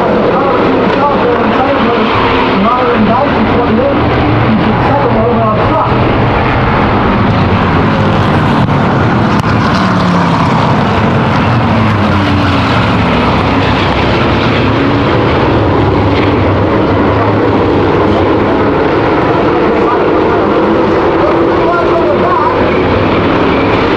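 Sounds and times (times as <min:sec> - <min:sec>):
racing car engines roaring: 0:00.0 - 0:23.9.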